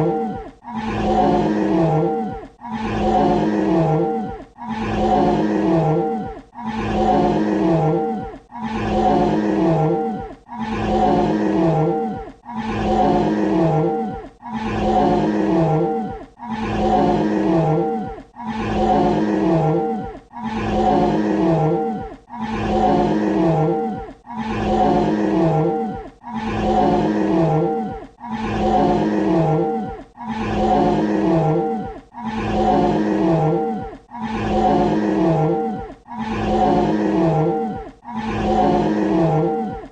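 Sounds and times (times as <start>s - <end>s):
dinosaur roar: 0.0s - 39.9s.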